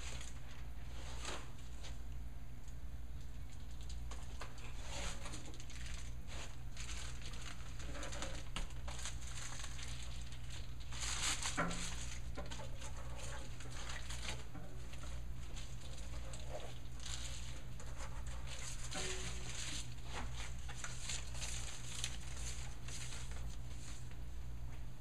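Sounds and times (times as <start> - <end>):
foil bubble wrap crinkling: 0.0 - 2.0, 3.2 - 24.3
steady low hum: 0.0 - 25.0.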